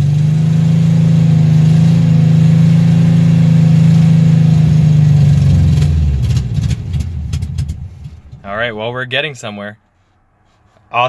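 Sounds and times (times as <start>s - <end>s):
car engine running and stalling: 0.0s - 8.9s.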